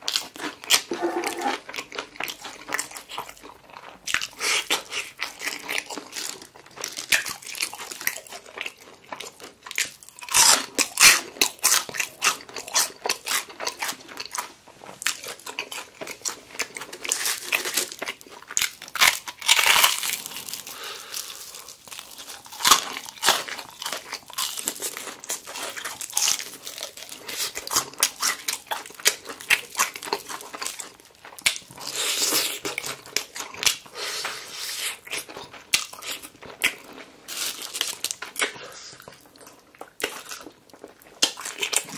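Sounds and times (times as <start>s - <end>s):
crunching fried chicken: 0.0s - 41.9s.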